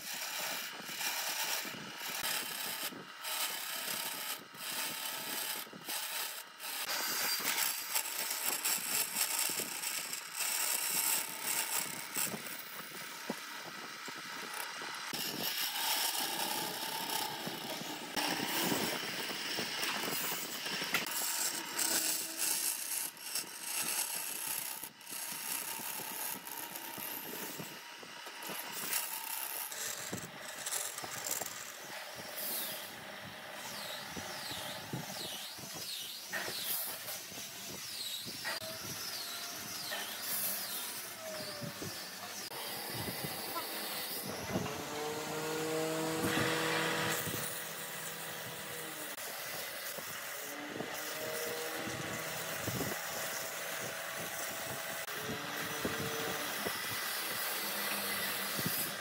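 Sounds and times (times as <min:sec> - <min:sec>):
power tool rasping wood: 0:00.0 - 0:59.0.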